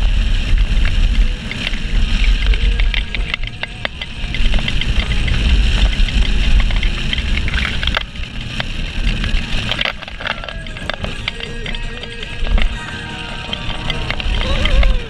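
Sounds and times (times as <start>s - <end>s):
roller coaster rumbling and rattling: 0.0s - 15.0s
sharp track clacks: 0.0s - 15.0s.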